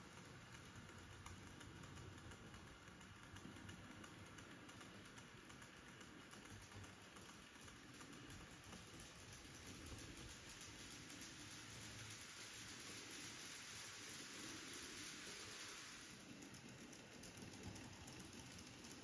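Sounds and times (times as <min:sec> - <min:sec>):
model train wheels clicking: 0:00.0 - 0:19.0.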